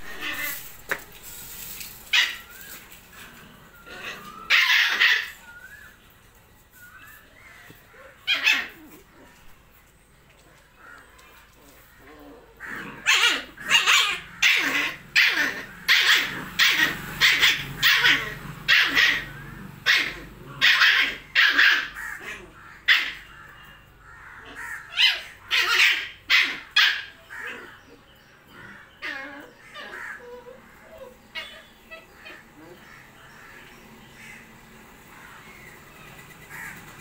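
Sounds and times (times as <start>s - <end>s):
puppies barking: 0.0s - 1.0s, 2.0s - 6.0s, 7.3s - 9.6s, 10.5s - 34.5s.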